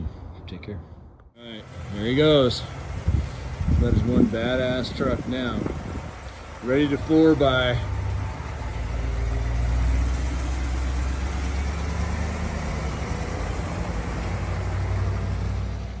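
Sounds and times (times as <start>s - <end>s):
truck engine rumbling past: 1.4s - 16.0s.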